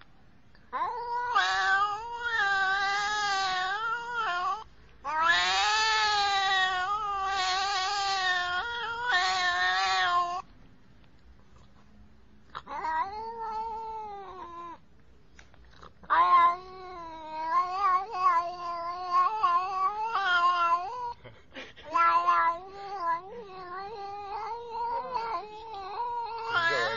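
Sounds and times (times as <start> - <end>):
cat yowling: 0.7 - 10.5, 12.6 - 14.8, 16.0 - 21.2, 21.9 - 26.9.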